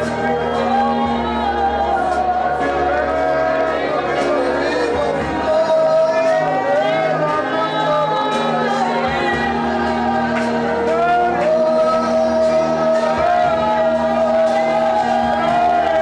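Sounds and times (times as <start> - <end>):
gospel voices singing: 0.0 - 16.0.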